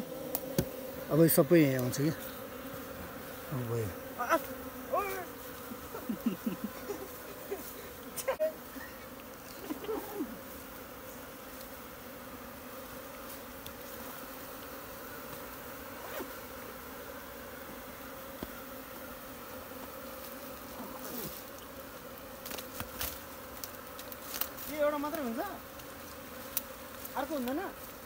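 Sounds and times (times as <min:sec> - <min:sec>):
honey bees buzzing: 0:00.0 - 0:28.0.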